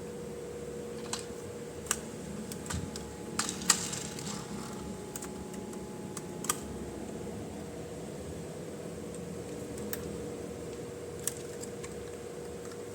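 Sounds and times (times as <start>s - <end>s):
faint hum: 0.0s - 12.9s.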